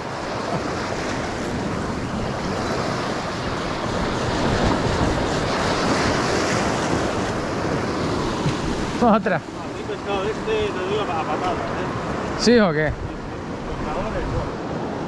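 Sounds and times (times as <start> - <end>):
sea surf washing against rocks: 0.0 - 15.0
wind buffeting microphone: 0.0 - 15.0.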